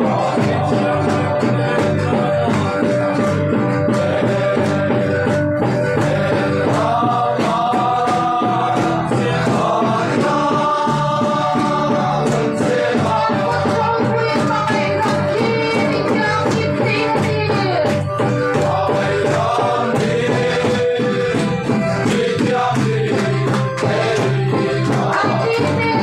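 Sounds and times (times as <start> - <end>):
group singing: 0.0 - 26.0
steady drum beat: 0.0 - 26.0.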